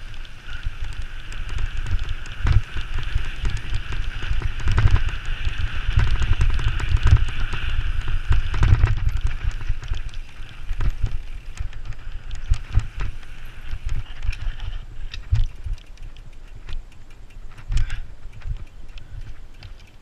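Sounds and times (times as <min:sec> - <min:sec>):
bicycle rattling over rough ground: 0:00.0 - 0:20.0.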